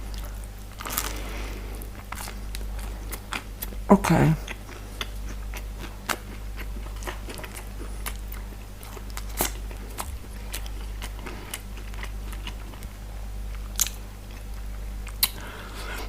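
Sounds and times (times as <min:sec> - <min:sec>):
person chewing and biting food: 0:00.0 - 0:03.8, 0:04.4 - 0:16.0
low electrical hum: 0:00.0 - 0:16.0.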